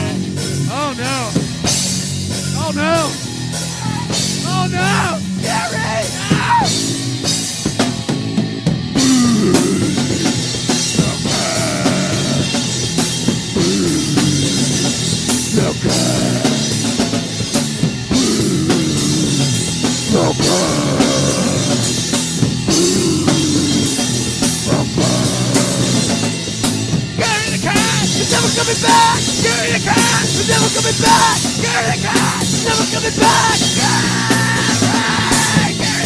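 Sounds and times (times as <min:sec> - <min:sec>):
drum kit and cymbals: 0:00.0 - 0:36.0
rock band playing live: 0:00.0 - 0:36.0.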